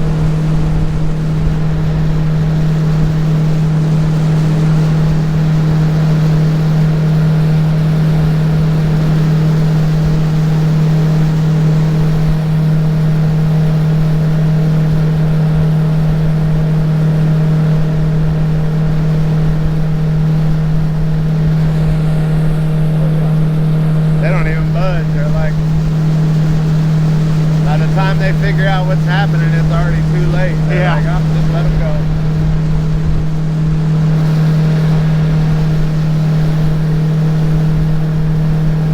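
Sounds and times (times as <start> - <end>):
jet boat motor droning: 0.0 - 38.9.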